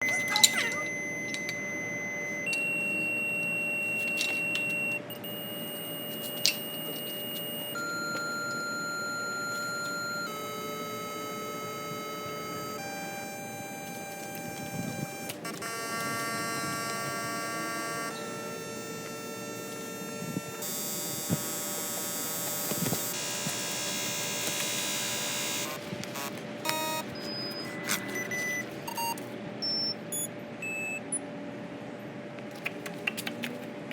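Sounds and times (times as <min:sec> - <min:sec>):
short electronic beeps: 0:00.0 - 0:19.1, 0:22.3 - 0:31.2
electronic tones: 0:00.0 - 0:31.0.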